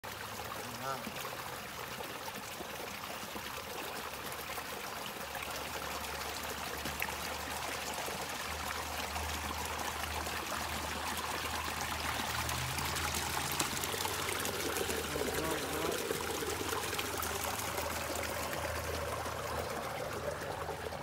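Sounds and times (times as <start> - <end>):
water trickling in stone channel: 0.0 - 21.0.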